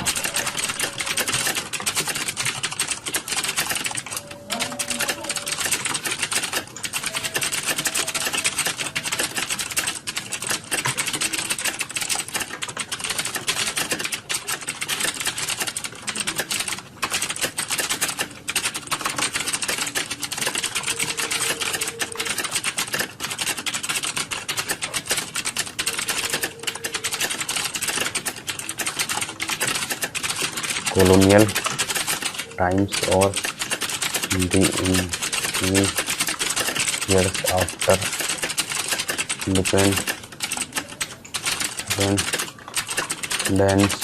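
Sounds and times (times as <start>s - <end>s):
typing on computer keyboard: 0.0s - 44.0s.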